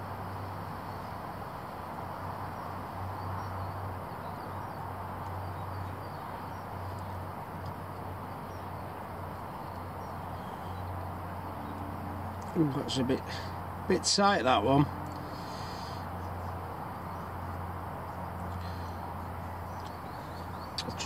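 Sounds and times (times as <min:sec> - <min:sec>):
outdoor background noise: 0:00.0 - 0:21.0
small bird chirping: 0:02.6 - 0:13.4, 0:14.6 - 0:21.0.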